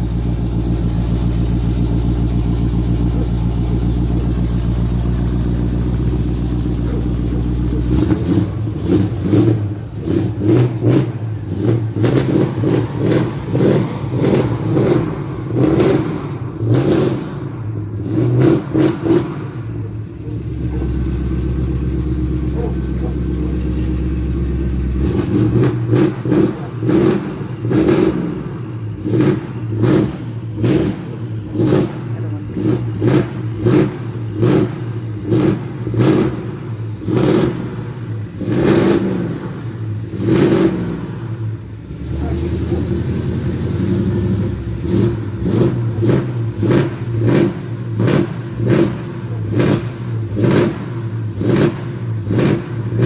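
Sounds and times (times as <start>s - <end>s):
pickup engine revving: 0.0s - 53.0s.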